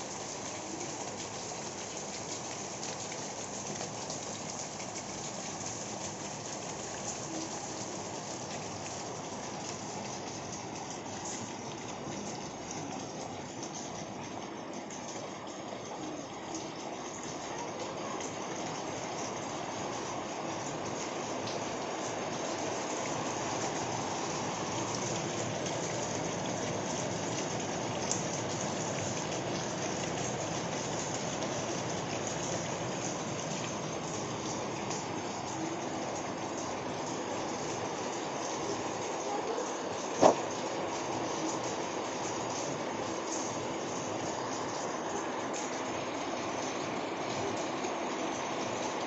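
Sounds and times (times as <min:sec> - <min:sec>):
rain falling on wet concrete: 0:00.0 - 0:49.0.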